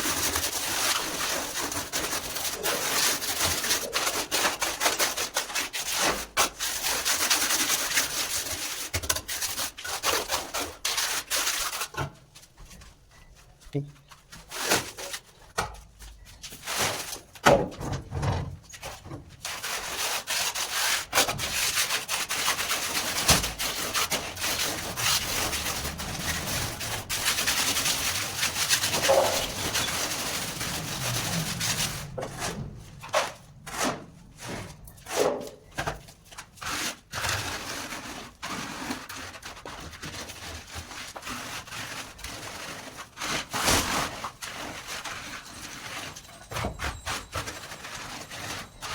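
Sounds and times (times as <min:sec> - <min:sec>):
hand tool scraping cement: 0:00.0 - 0:12.2, 0:14.3 - 0:15.6, 0:18.7 - 0:48.9.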